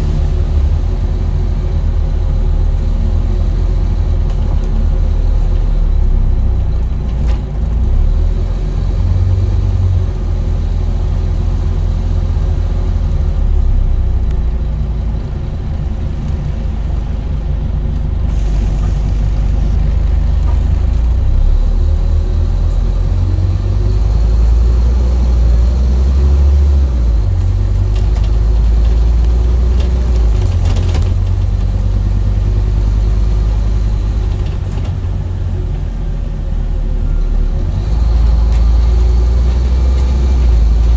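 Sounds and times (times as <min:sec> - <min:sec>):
diesel bus engine rumble: 0:00.0 - 0:40.9.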